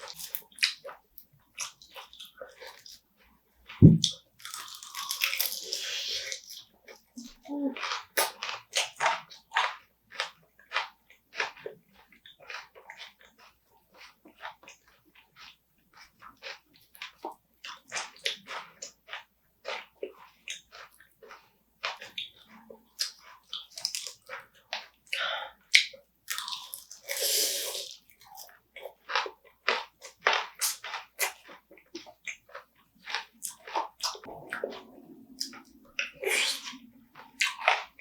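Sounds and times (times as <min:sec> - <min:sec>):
chewing and crunching crab: 0:00.0 - 0:38.0.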